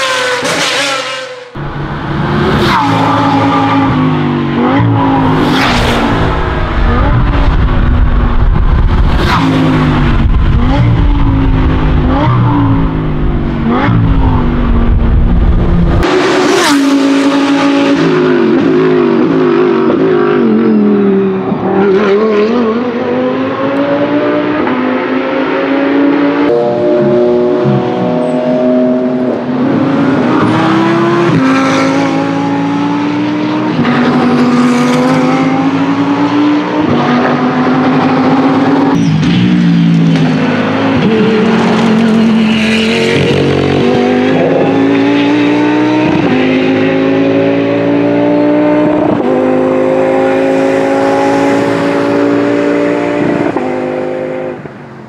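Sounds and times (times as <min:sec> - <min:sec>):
racing engine at full throttle: 0:00.0 - 0:55.0.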